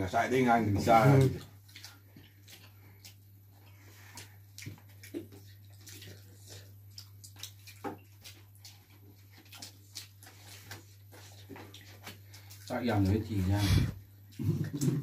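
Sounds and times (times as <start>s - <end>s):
lips smacking and chewing: 1.3s - 12.7s, 13.8s - 15.0s.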